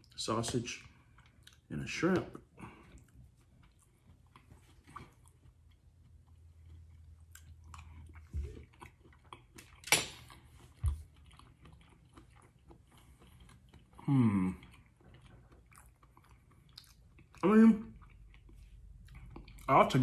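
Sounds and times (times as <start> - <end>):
close-up chewing: 0.0 - 20.0.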